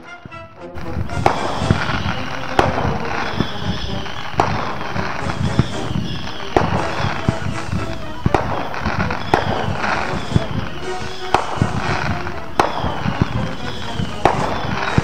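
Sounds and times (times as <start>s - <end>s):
fireworks banging: 0.2s - 15.0s
fireworks crackling: 0.2s - 15.0s.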